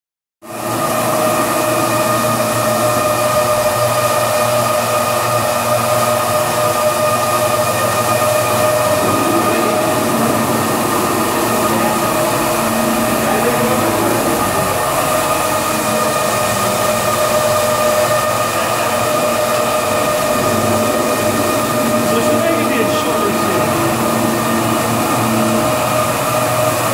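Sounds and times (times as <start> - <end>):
carpet washing machine whine: 0.4 - 26.9.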